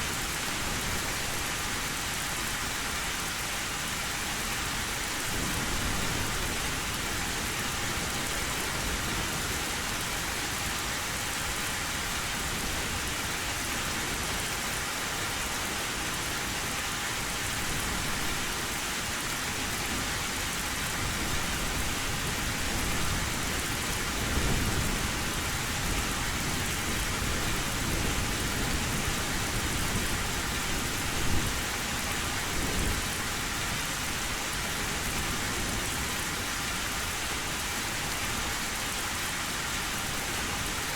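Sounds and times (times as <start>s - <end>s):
heavy rain on metal roof: 0.0s - 40.9s.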